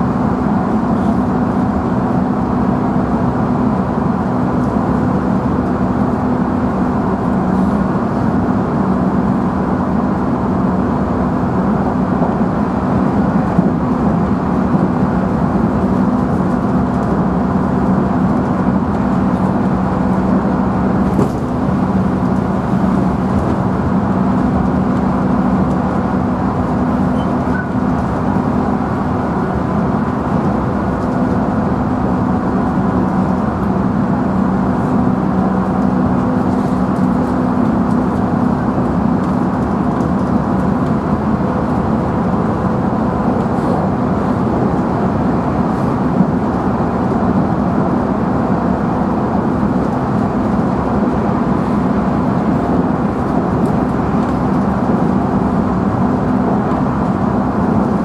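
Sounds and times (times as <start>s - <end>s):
constant hum: 0.0s - 58.0s
train drive and wheels drone: 0.0s - 58.0s.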